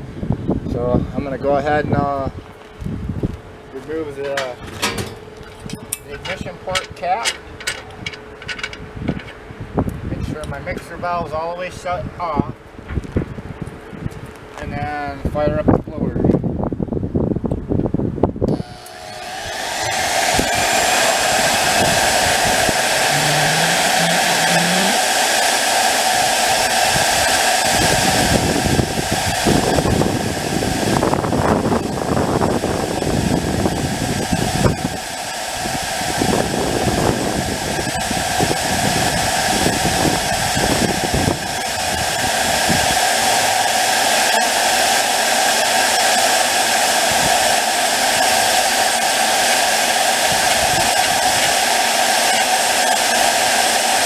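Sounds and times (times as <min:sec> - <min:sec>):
blower whining: 0:00.0 - 0:11.8, 0:18.4 - 0:54.0.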